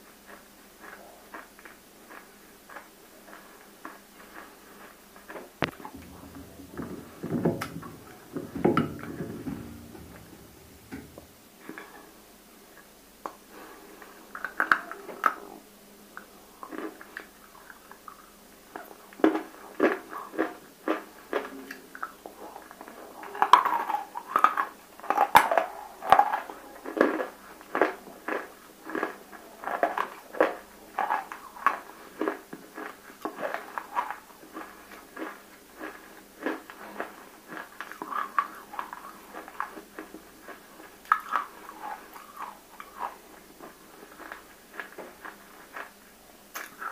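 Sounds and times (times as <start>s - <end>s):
crunching and chewing: 0.0s - 12.1s, 13.2s - 46.9s.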